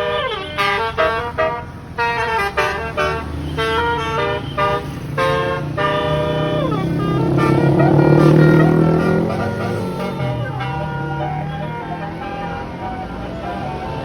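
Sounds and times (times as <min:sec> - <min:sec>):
bus engine running: 0:00.0 - 0:14.0
multi-note bus horn melody: 0:00.0 - 0:14.0.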